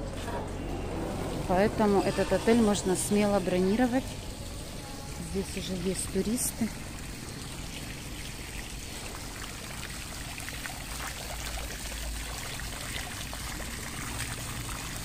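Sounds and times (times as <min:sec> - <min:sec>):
fountain jet splashing into pool: 0:00.0 - 0:15.0.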